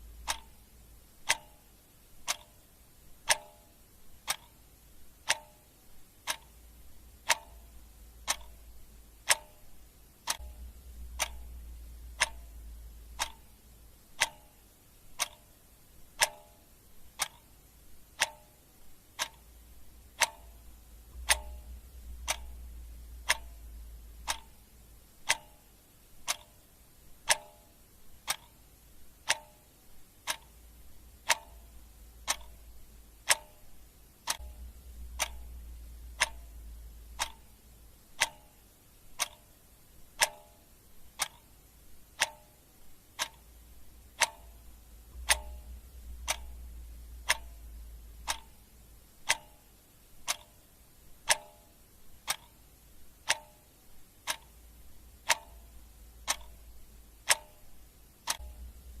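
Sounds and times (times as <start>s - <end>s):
clock ticking: 0.0s - 59.0s
faint low hum: 0.0s - 59.0s.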